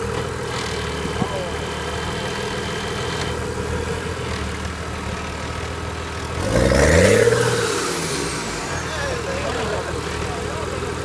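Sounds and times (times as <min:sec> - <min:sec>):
off-road engine revving: 0:00.0 - 0:11.0.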